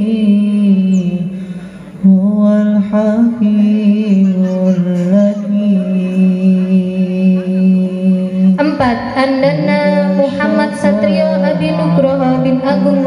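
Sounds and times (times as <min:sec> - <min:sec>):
voices chanting over loudspeaker: 0:00.0 - 0:13.0.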